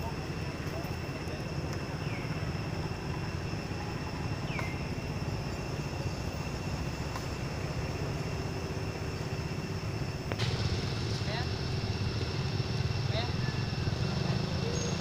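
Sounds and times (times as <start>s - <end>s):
insect whine: 0.0s - 15.0s
low rumble: 2.1s - 14.7s.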